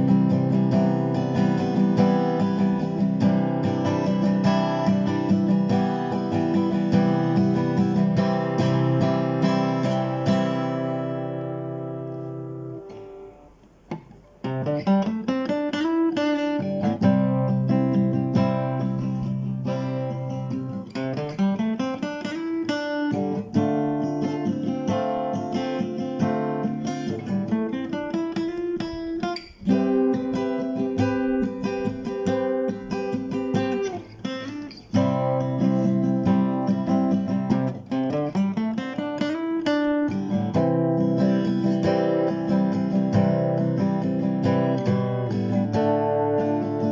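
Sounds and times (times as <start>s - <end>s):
acoustic guitar playing: 0.0s - 46.9s.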